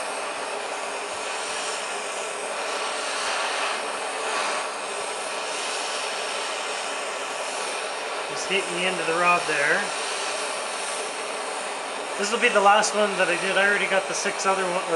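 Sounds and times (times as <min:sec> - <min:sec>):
gas torch hissing: 0:00.0 - 0:14.9.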